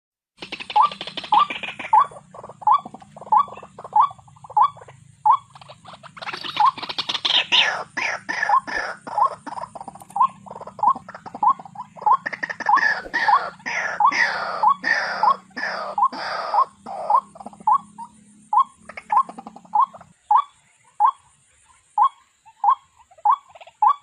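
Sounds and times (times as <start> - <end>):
harsh falling bird notes: 0.4 - 20.4.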